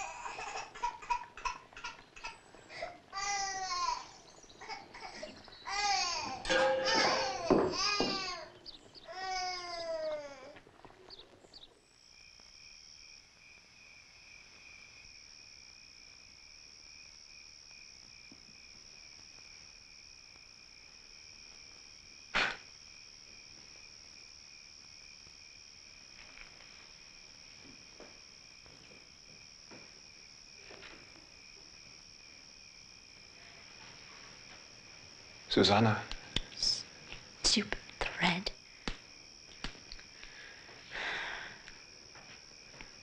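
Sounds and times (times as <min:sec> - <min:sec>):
crickets chirping: 0:00.0 - 0:43.0.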